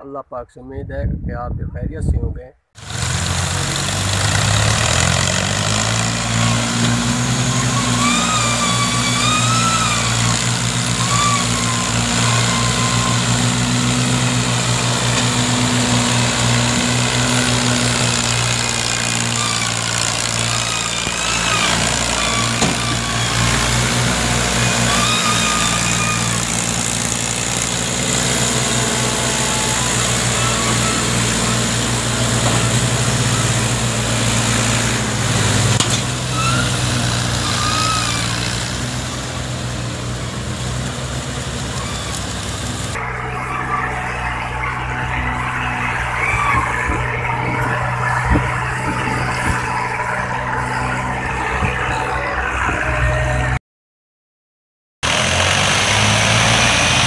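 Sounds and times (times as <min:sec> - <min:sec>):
tractor diesel engine under load: 0:02.8 - 0:53.6, 0:55.0 - 0:57.0.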